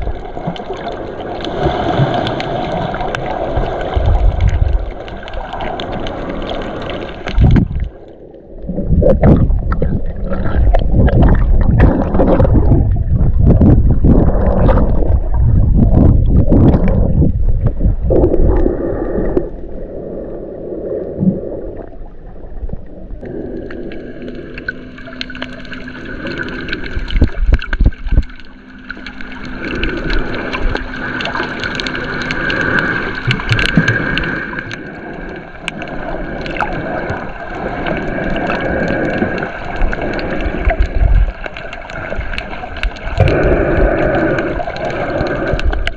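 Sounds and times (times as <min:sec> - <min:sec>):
faint steady hum: 0:00.0 - 0:45.9
sea water sloshing and gurgling: 0:00.0 - 0:45.9.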